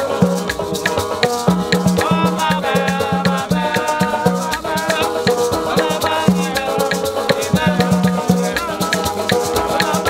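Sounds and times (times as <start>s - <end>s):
banjo and guitar strumming: 0.0s - 10.0s
maraca shaking: 0.0s - 10.0s
person singing: 0.0s - 10.0s.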